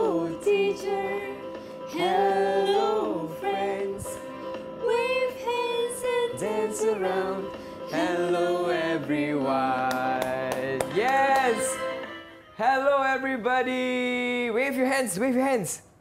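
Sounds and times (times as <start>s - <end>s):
backing music: 0.0s - 14.3s.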